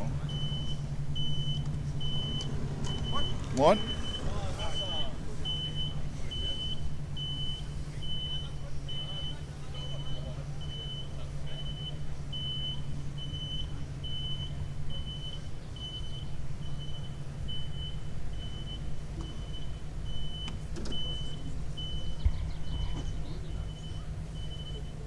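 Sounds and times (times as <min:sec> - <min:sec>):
reversing alarm beeping: 0:00.0 - 0:25.0
steady low hum: 0:00.0 - 0:25.0.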